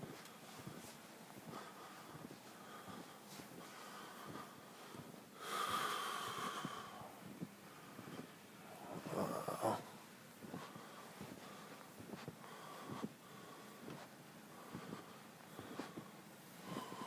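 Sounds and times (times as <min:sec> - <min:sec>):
hissy breaths close to microphone: 0:00.0 - 0:17.0.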